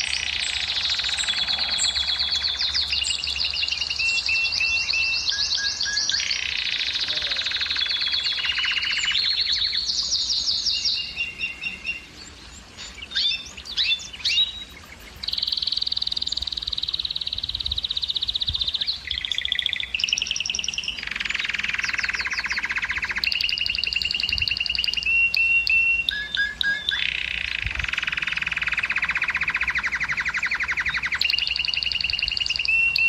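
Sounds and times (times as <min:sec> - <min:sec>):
canary singing trills: 0:00.0 - 0:33.0.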